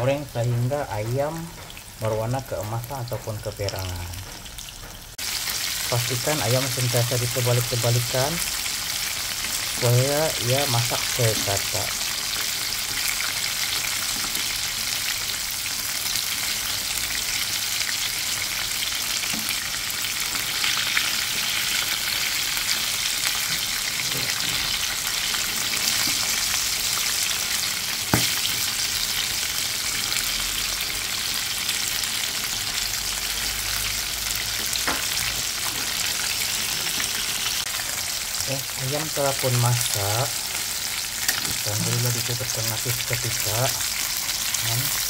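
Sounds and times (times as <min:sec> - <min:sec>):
chicken sizzling in hot oil: 0:00.0 - 0:45.0.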